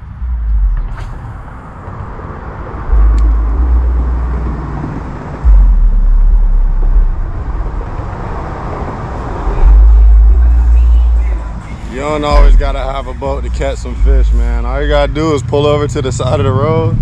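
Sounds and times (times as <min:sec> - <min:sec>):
heavy low rumble: 0:00.0 - 0:17.0
road traffic hiss: 0:00.9 - 0:05.4, 0:06.8 - 0:17.0.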